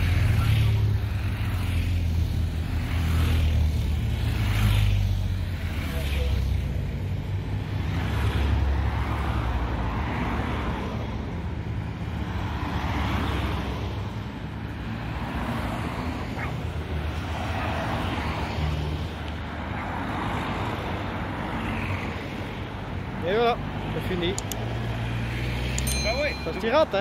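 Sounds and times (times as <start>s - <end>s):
motorcycle passing: 0.0s - 9.5s, 12.3s - 22.3s, 23.9s - 27.0s
vehicles passing: 0.0s - 27.0s.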